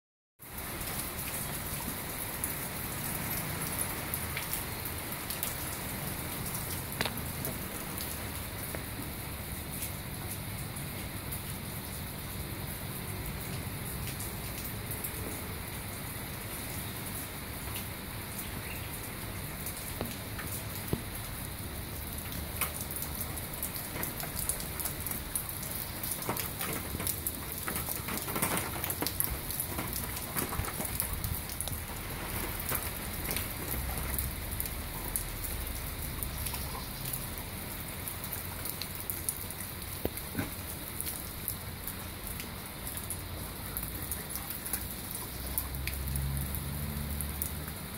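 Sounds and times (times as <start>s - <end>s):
rain falling on paving and plants: 0.4s - 47.9s.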